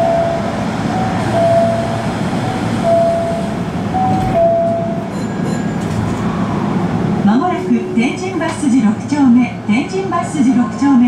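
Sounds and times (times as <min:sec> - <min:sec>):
subway train running noise: 0:00.0 - 0:11.0.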